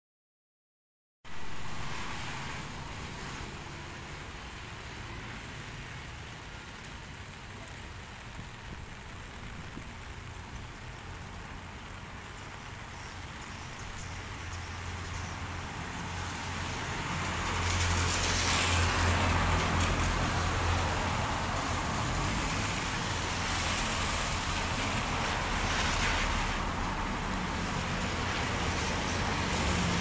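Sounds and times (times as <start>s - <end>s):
tyres hissing on wet road: 1.3s - 30.0s.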